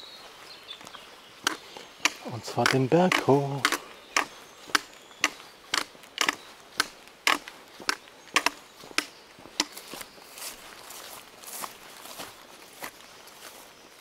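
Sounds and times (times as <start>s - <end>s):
footsteps walking uphill: 0.0s - 14.0s.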